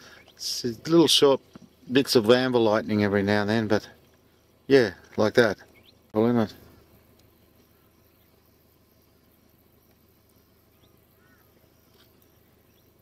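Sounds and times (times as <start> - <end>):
faint chirps: 0.0 - 13.0
faint insect sounds: 0.0 - 13.0.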